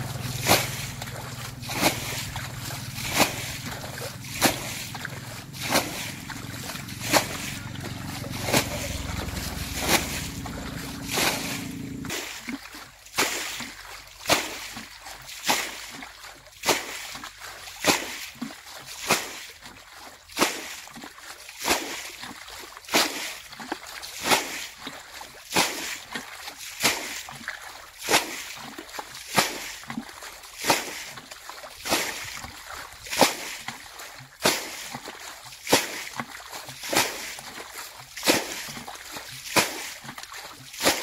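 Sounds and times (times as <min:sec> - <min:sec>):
bucket scooping water: 0:00.0 - 0:41.0.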